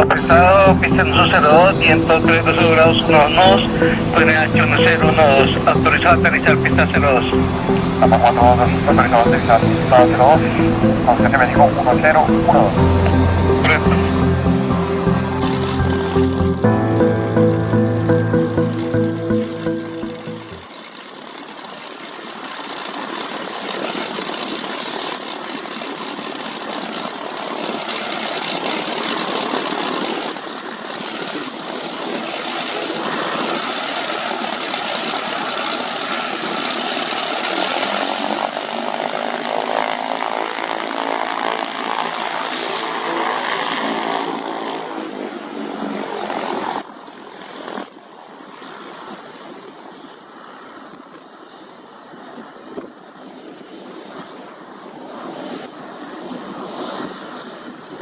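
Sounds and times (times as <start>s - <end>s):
jet airliner engines: 0.0s - 16.3s, 20.6s - 58.0s.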